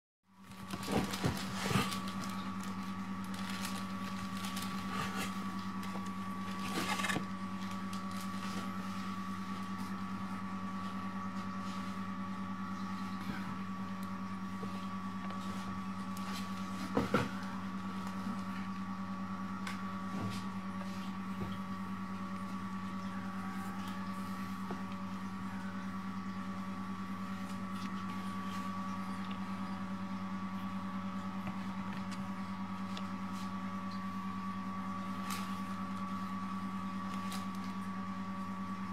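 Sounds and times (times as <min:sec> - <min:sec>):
machine hum with whine: 0:00.3 - 0:38.9.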